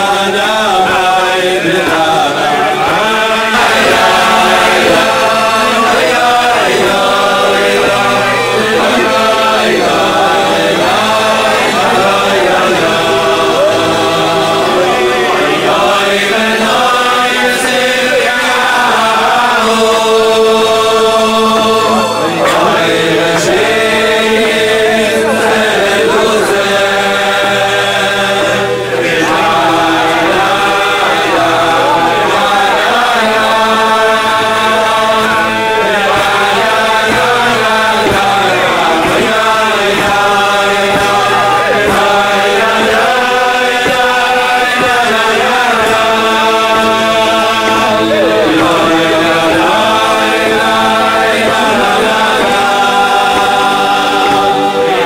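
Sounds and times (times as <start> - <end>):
men singing together: 0.0 - 55.0.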